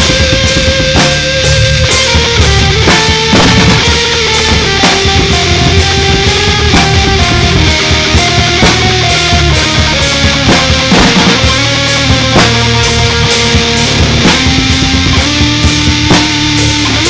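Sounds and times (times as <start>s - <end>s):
electric guitar held notes: 0.0s - 17.0s
heavy rock music: 0.0s - 17.0s
sharp drum hits: 0.0s - 17.0s.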